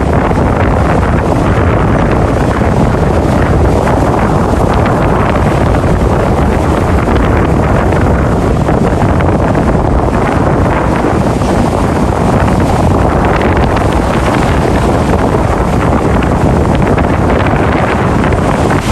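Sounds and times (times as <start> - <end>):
sea waves washing in: 0.0 - 18.9
wind buffeting microphone: 0.0 - 18.9.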